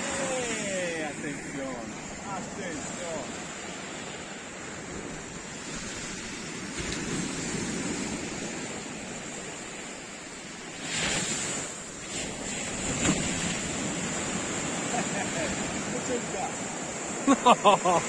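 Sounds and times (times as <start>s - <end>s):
sea surf washing onto beach: 0.0s - 18.0s.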